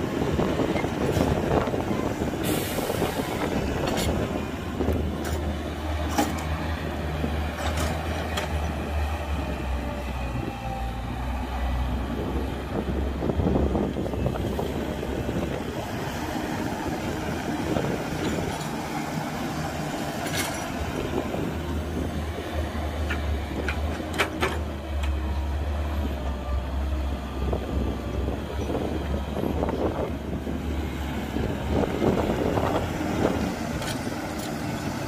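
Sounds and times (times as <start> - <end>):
excavator diesel engine drone: 0.0 - 35.0.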